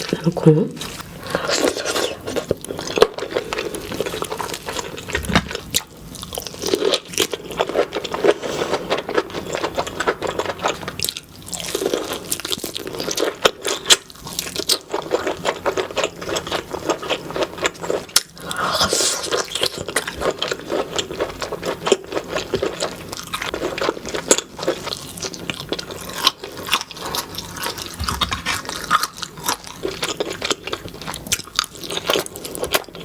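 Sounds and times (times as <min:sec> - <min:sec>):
wet chewing and crunching: 0:00.0 - 0:33.0.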